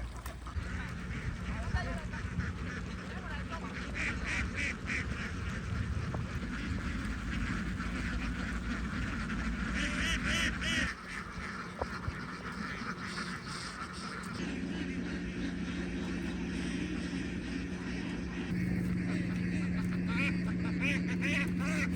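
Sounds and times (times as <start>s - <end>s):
ducks quacking: 0.0s - 21.9s
low steady rumble: 0.0s - 21.9s.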